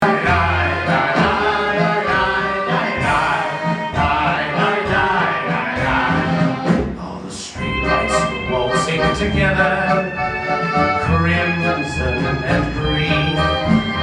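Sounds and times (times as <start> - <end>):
klezmer band playing: 0.0 - 14.0
voices singing together: 0.0 - 14.0.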